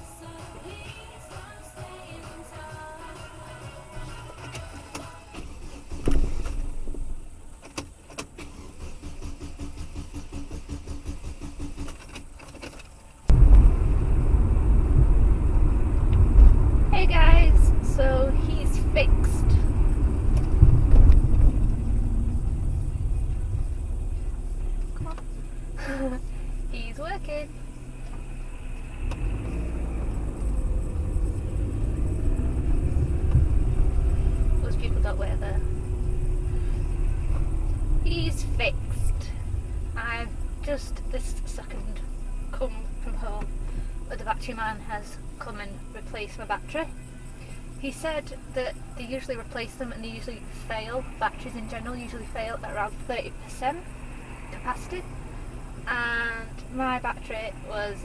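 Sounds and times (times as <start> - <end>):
car engine starting and idling: 0.0 - 58.0.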